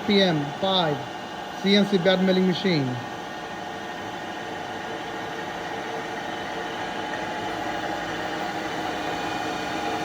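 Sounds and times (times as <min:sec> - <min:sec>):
milling machine whirring: 0:00.0 - 0:10.0.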